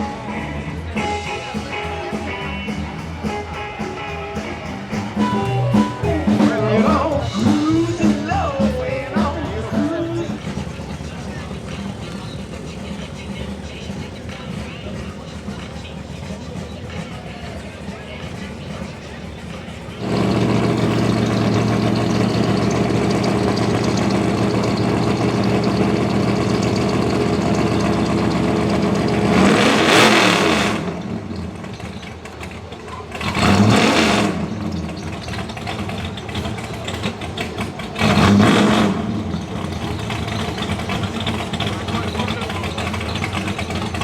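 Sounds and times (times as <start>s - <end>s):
car engine idling and revving: 0.0s - 44.0s.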